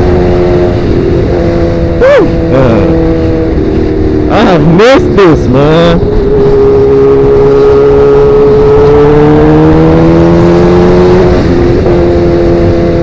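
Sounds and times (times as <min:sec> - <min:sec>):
motorcycle engine rising in pitch: 0:00.0 - 0:13.0.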